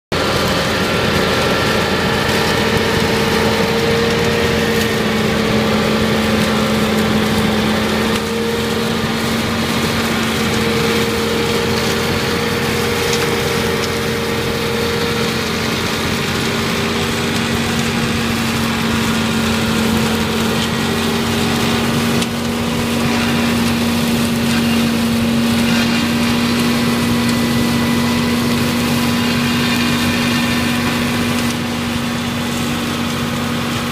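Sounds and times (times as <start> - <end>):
flail mower cutting grass: 0.1 - 33.9
tractor engine running: 0.1 - 33.9.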